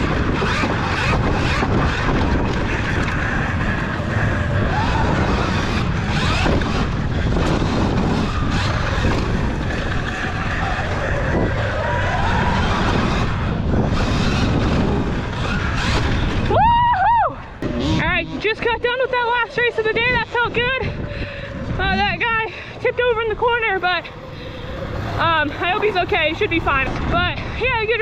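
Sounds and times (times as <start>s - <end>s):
rushing wind noise: 0.0s - 28.0s.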